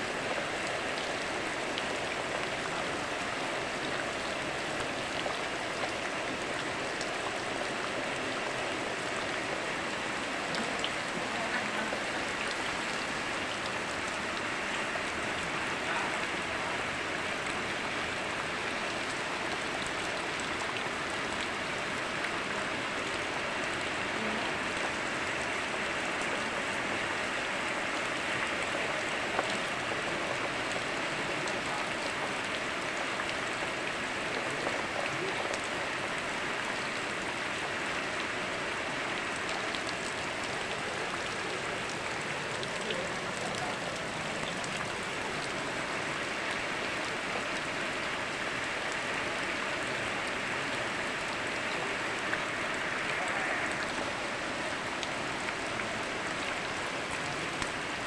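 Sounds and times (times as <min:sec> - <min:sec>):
flowing river water: 0:00.0 - 0:58.0
steady rain: 0:00.0 - 0:58.0.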